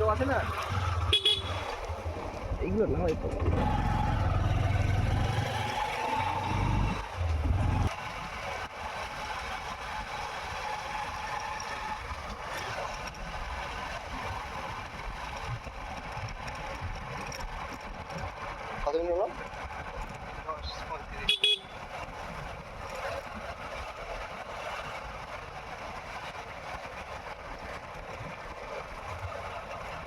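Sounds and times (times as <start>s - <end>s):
motorcycle engine running: 0.0s - 30.0s
road noise: 0.0s - 30.0s.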